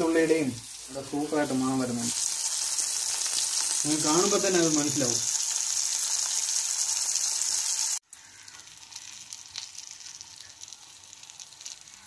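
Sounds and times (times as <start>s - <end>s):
fish sizzling in hot oil: 0.0s - 12.0s
oil crackling and popping: 0.0s - 12.0s.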